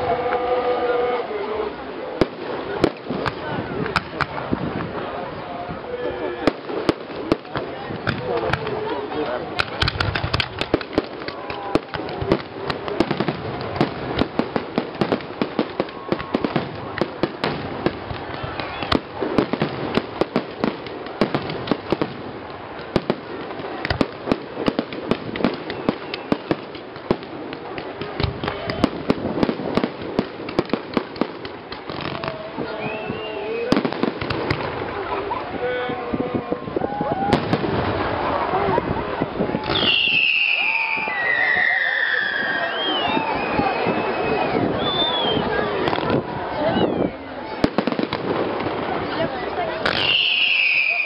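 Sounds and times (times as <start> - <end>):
fireworks bangs and crackles: 1.6 - 51.0.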